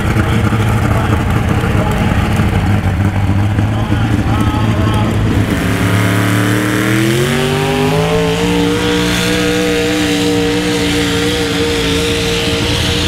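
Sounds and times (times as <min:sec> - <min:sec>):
tractor engine at high revs: 0:00.0 - 0:13.0.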